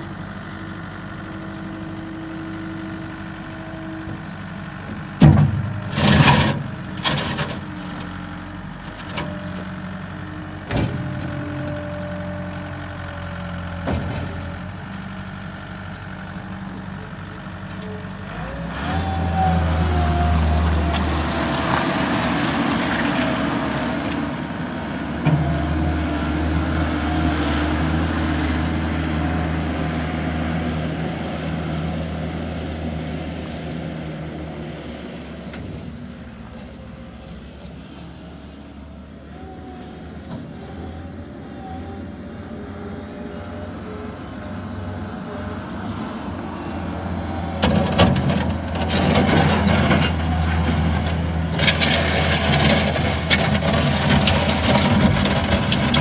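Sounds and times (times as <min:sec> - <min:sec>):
skid steer loader engine running: 0:00.0 - 0:56.0.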